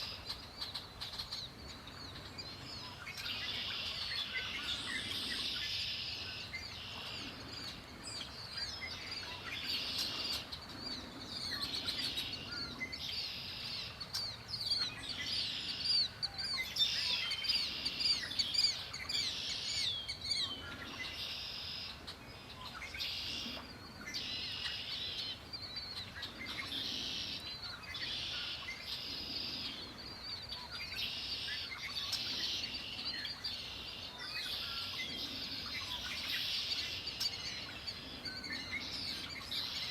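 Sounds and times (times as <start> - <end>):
songbirds singing in chorus: 0.0 - 39.9.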